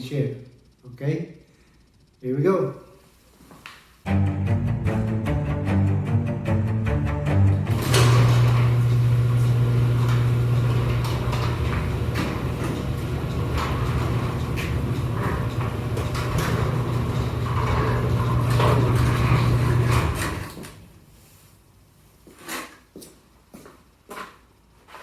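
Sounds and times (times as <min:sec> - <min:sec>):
steady low hum: 0:00.0 - 0:22.2.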